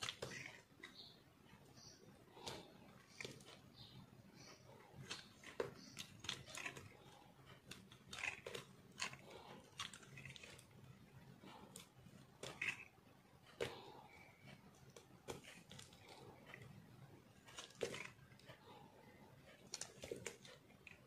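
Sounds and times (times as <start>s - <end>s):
knife blade shaving soap: 0.0s - 3.7s, 4.5s - 13.0s, 13.6s - 21.0s.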